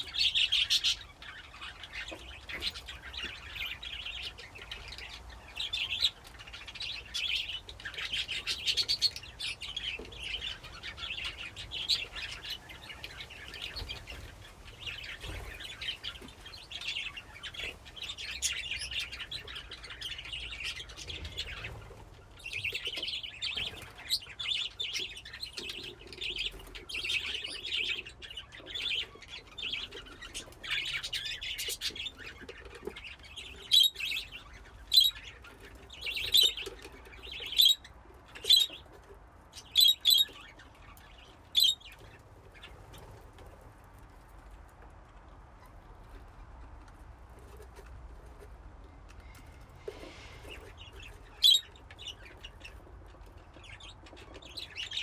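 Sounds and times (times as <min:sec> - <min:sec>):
budgerigars chattering: 0:00.0 - 0:21.8, 0:22.4 - 0:38.9, 0:39.6 - 0:42.7, 0:50.0 - 0:52.8.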